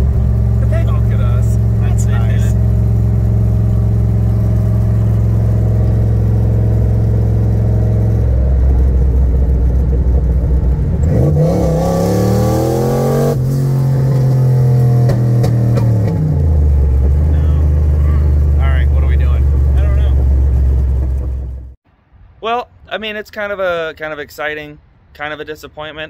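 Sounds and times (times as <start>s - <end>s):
car engine accelerating: 0.0s - 21.8s.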